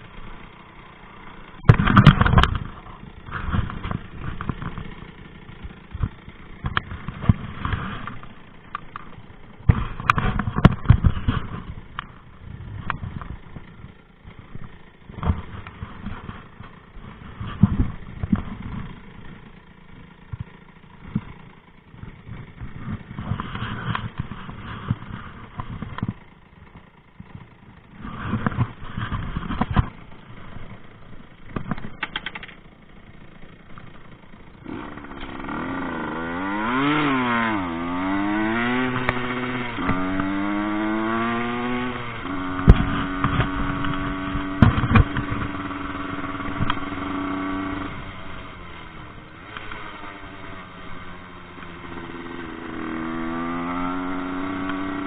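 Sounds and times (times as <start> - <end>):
engine knocks and rattles: 0.0 - 55.0
moped engine revving: 0.0 - 55.0.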